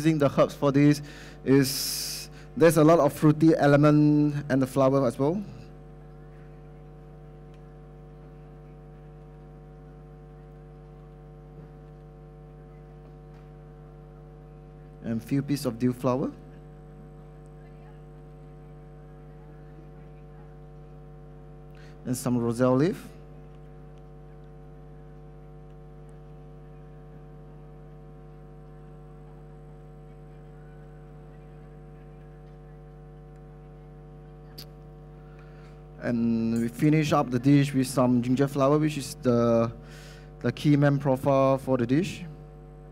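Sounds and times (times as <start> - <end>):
electrical mains hum: 0.0 - 42.9.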